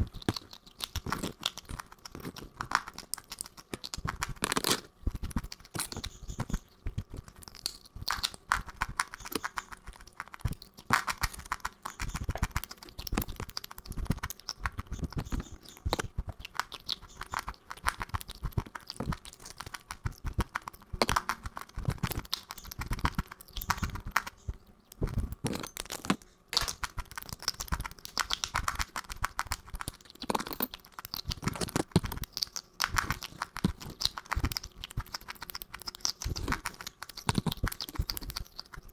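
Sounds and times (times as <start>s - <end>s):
crunching and crackling: 0.0s - 38.9s.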